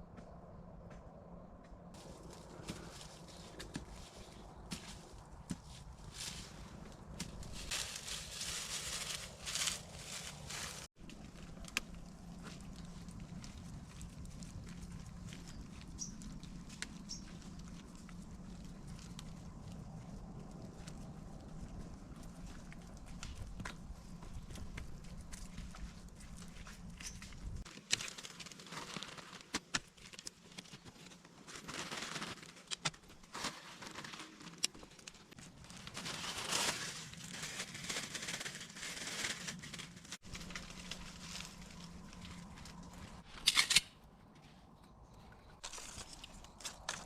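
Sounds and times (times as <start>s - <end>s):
rustling and crinkling: 2.0s - 47.0s.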